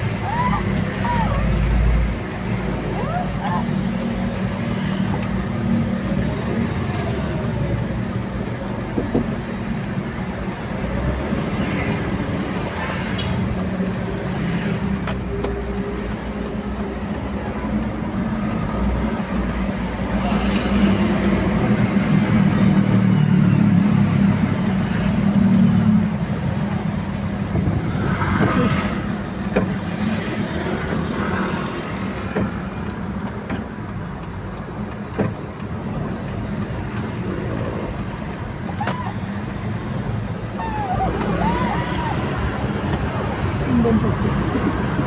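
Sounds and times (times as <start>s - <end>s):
heavy vehicle engine drone: 0.0s - 30.7s, 32.8s - 45.0s
highway traffic passing: 0.0s - 45.0s.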